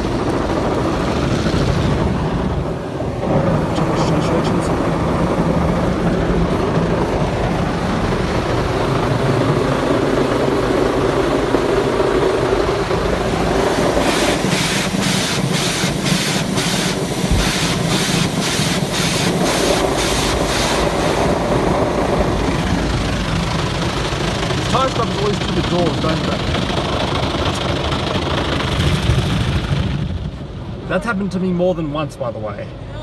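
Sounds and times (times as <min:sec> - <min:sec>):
car wash brushes churning: 0:00.0 - 0:30.7.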